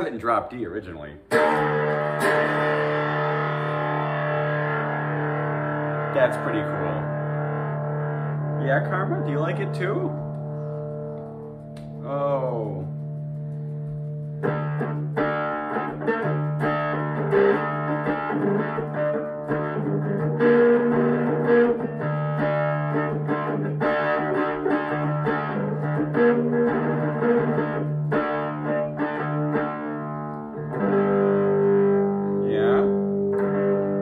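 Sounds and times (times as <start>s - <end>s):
electric guitar through amplifier: 1.2s - 34.0s.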